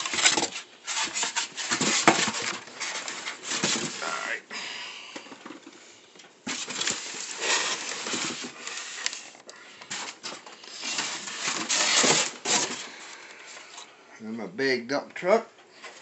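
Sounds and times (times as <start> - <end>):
cardboard and foam packaging rustling: 0.0 - 4.4, 5.2 - 13.9.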